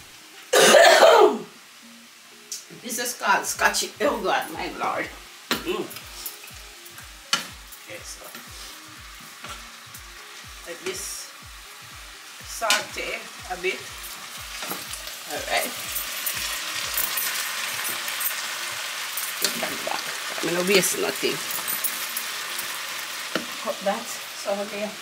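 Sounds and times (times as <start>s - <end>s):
vegetables sizzling in a saucepan: 0.0s - 25.0s.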